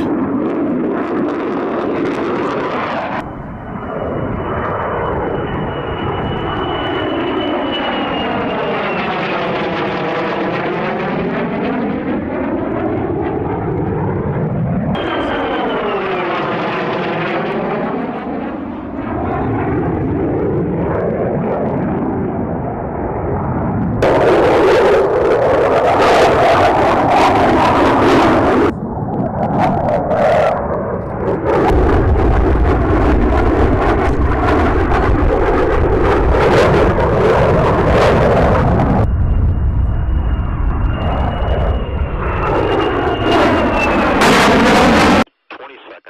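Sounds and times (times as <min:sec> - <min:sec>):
fighter jets passing by: 0:00.0 - 0:46.0.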